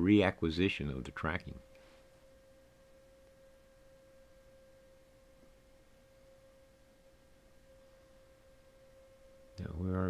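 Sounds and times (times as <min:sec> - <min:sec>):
faint single-pitched whine: 0:00.0 - 0:10.0.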